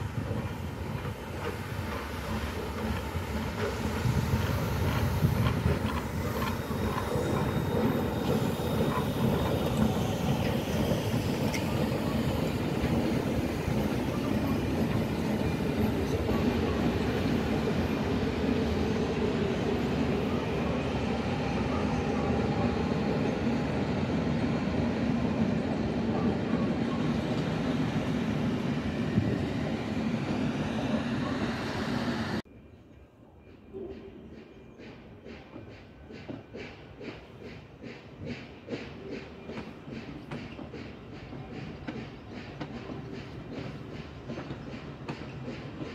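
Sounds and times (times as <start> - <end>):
train wheels rumbling on track: 0.0 - 32.5, 33.3 - 45.9.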